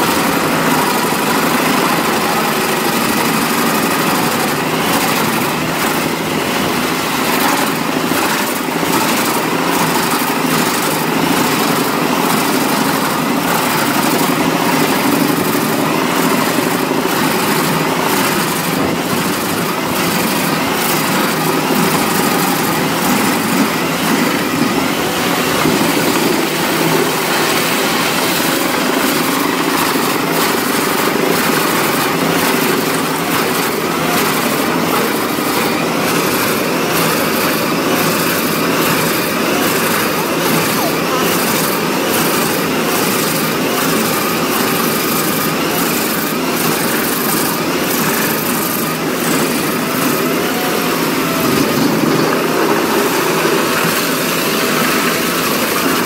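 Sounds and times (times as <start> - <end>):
wood chipper engine drone: 0.0 - 56.0.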